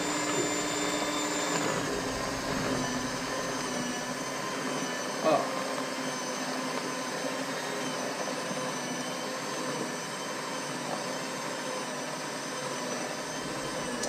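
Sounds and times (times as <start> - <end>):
electric mixer running: 0.0 - 14.0.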